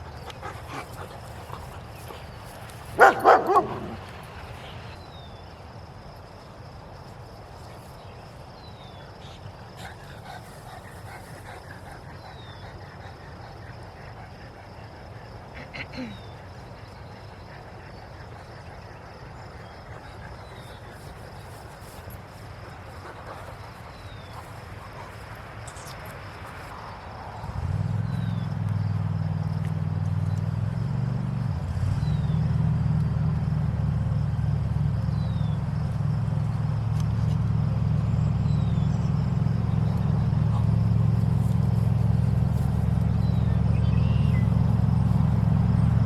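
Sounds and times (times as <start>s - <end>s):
insects: 0.0s - 46.0s.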